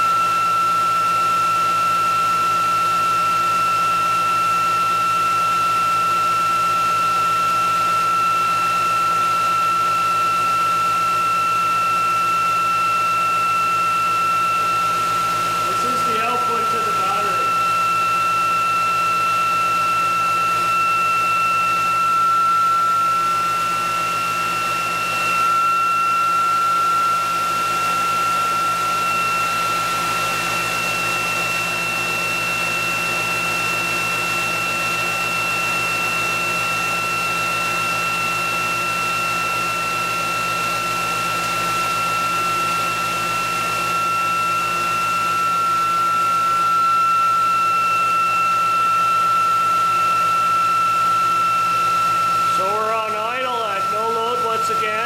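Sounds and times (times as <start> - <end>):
motor generator high whine: 0.0 - 55.0.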